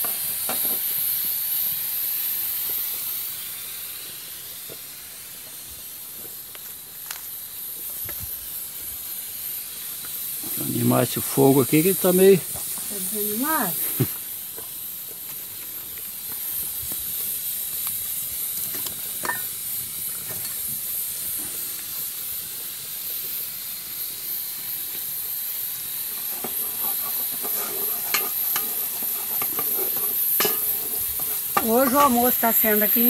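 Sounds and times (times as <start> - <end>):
wood-fired stove hissing: 0.0 - 33.0.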